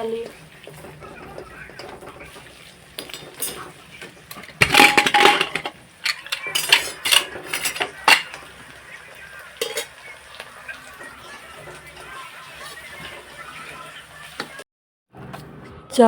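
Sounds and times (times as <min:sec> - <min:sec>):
metal utensils clattering: 0:00.8 - 0:14.6.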